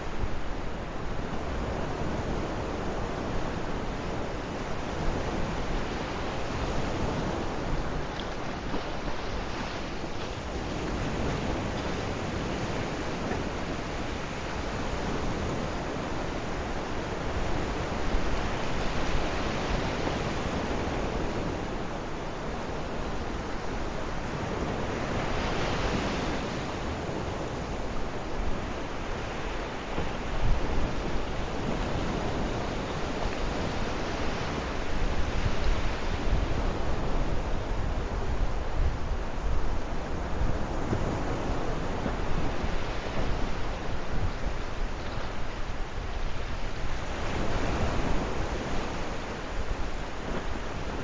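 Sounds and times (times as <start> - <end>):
sea waves washing onto shore: 0.0 - 51.0
wind rumbling on microphone: 0.0 - 51.0.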